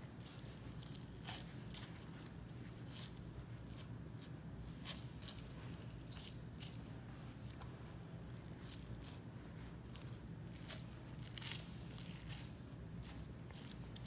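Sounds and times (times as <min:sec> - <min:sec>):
steady low hum: 0:00.0 - 0:14.0
knife slicing through fat: 0:00.2 - 0:07.5, 0:09.9 - 0:14.0.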